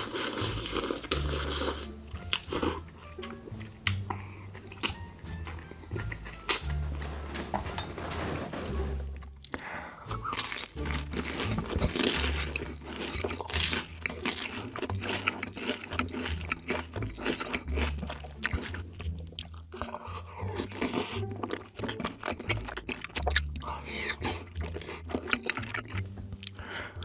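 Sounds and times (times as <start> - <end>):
crunchy chewing: 0.0 - 7.4, 9.2 - 27.0.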